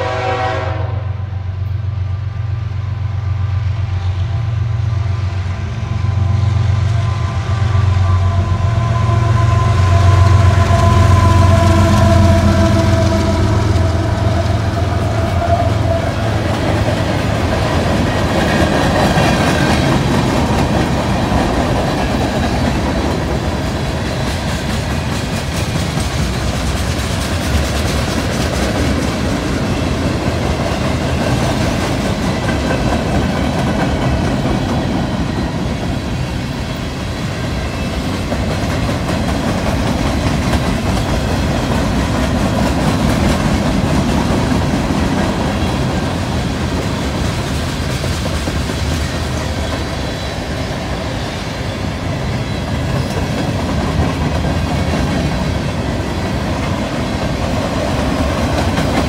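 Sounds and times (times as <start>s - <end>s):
locomotive engine drone: 0.0s - 59.0s
train wheels clacking on rails: 4.0s - 59.0s.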